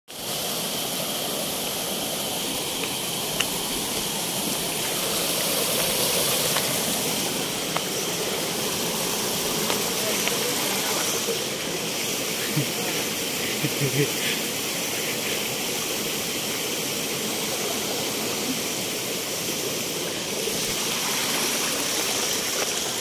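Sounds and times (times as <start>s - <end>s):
stream rushing over boulders: 0.1s - 23.0s.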